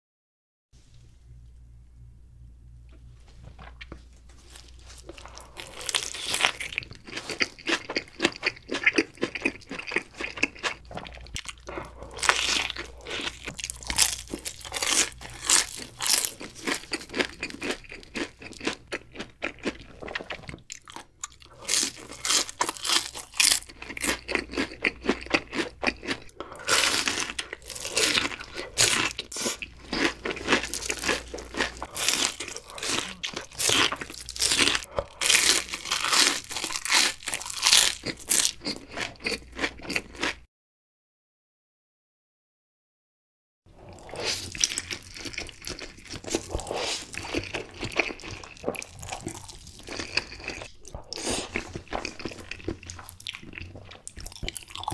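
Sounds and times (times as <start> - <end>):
crunching and chewing crispy food: 3.6 - 40.5, 43.8 - 54.9.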